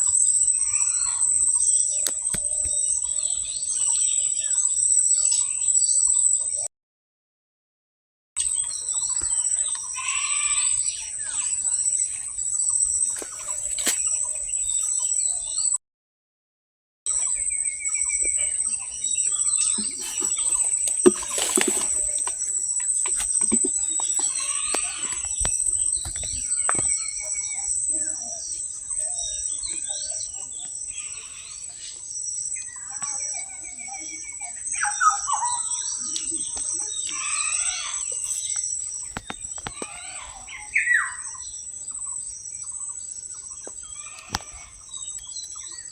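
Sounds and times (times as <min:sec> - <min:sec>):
birds chirping: 0:00.0 - 0:06.7, 0:08.4 - 0:15.8, 0:17.1 - 0:45.9.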